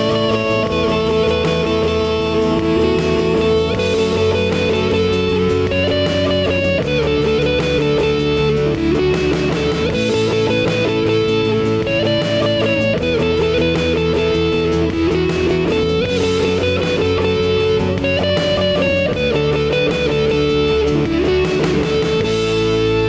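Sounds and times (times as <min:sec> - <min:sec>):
band sustained chords: 0:00.0 - 0:23.0
strummed guitar: 0:00.0 - 0:23.0.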